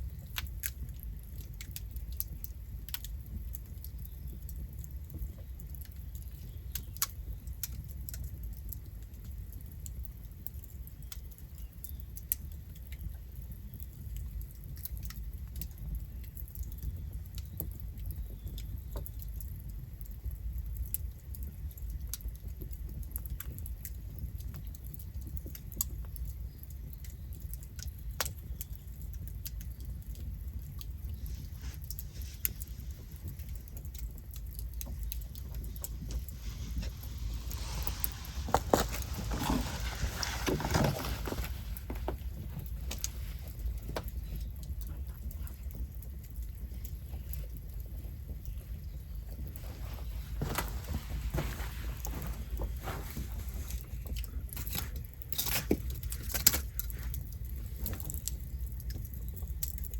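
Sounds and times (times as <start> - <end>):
campfire crackling and popping: 0.0 - 52.2, 52.8 - 59.9.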